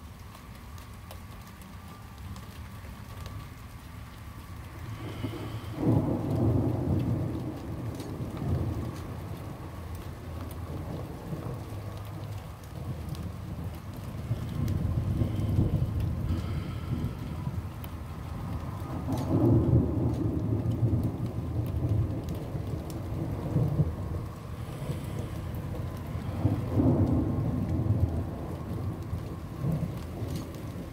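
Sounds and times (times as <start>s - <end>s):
light rain: 0.0s - 30.9s
raindrop taps: 0.2s - 30.9s
thunder rumbling and cracking: 4.8s - 30.9s.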